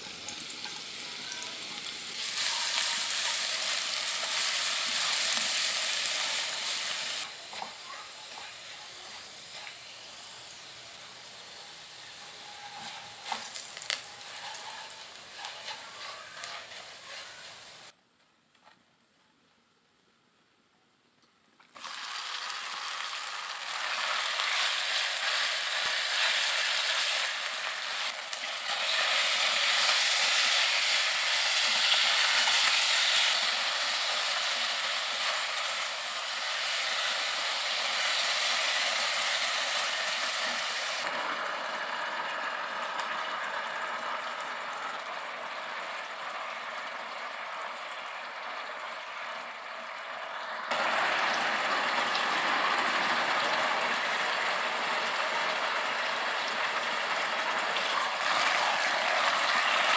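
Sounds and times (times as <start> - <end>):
beef sizzling in hot oil: 0.0 - 17.9, 21.8 - 59.9.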